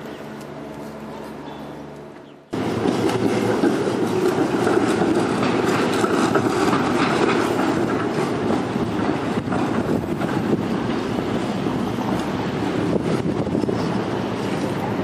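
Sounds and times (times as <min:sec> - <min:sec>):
car traffic: 0:00.0 - 0:15.0
streetcar wheels clattering on rails: 0:02.5 - 0:15.0.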